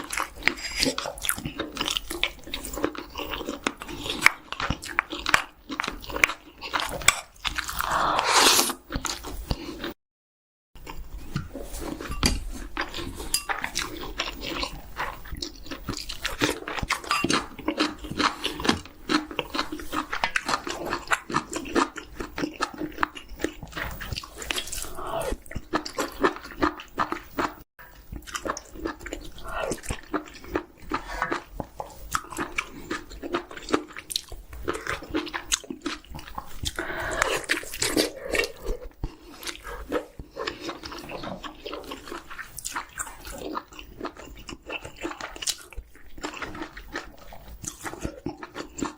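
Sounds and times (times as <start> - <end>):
chewing and crunching chicken: 0.0 - 10.0, 10.8 - 48.9.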